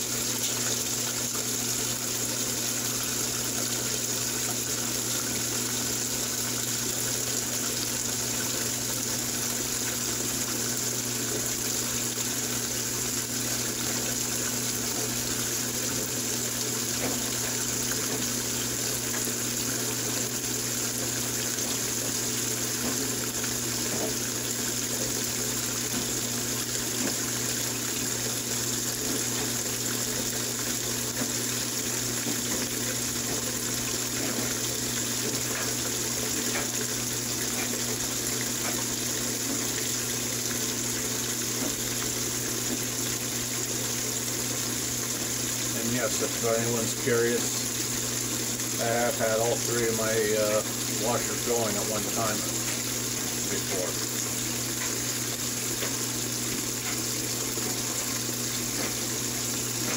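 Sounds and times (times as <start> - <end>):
water pouring into washing machine tub: 0.0 - 59.9.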